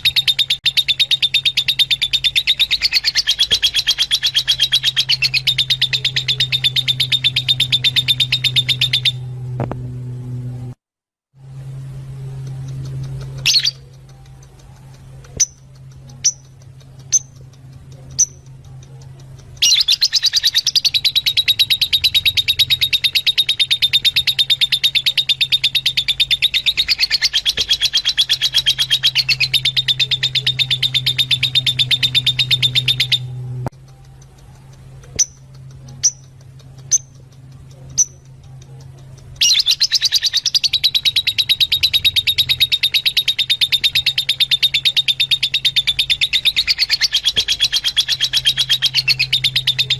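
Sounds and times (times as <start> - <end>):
fast chattering bird trill: 0.0 - 9.2, 12.5 - 49.9
lovebird high chirps: 0.0 - 9.3, 12.5 - 49.9
steady low hum: 0.0 - 10.8, 11.4 - 49.9.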